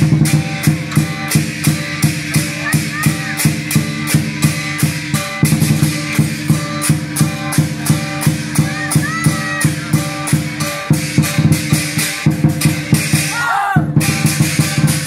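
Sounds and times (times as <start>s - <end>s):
cymbals crashing: 0.0s - 13.4s, 14.0s - 15.0s
big drum beating: 0.0s - 15.0s.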